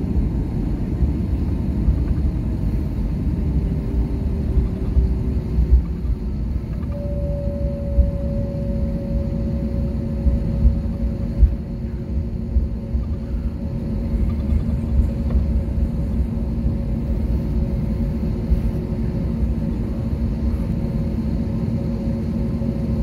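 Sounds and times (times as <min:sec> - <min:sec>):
faint steady whine: 0:00.0 - 0:23.0
jet engines idling: 0:00.0 - 0:23.0.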